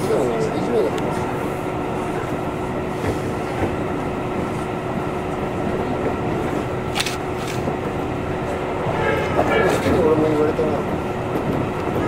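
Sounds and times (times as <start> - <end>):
electric train rolling rumble: 0.0 - 12.0.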